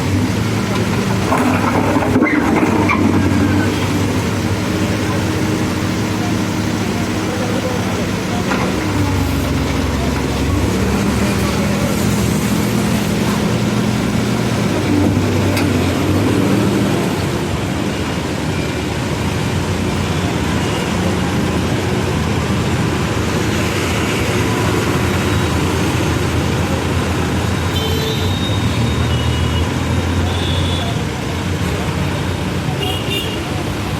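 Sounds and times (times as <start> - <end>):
diesel engine running: 0.0 - 27.7.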